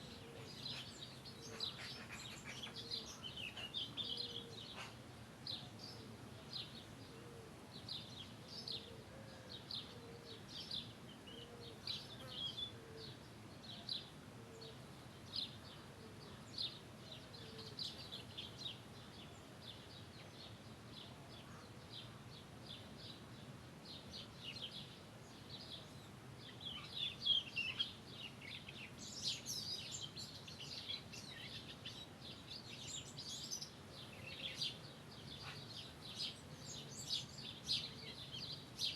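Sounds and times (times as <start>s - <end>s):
small birds chirping: 0.0s - 9.0s, 9.6s - 38.9s.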